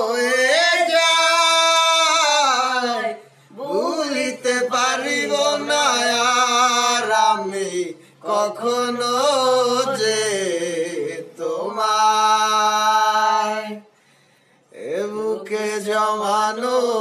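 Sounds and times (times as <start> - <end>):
man singing: 0.0 - 13.9, 14.7 - 17.0.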